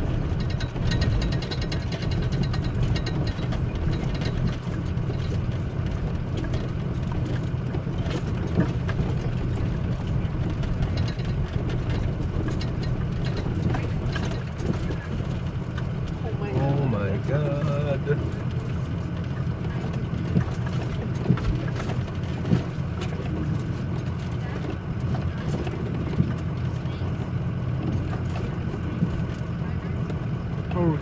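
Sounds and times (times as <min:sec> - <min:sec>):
rattles and knocks: 0:00.0 - 0:30.9
bus engine and road drone: 0:00.0 - 0:31.0.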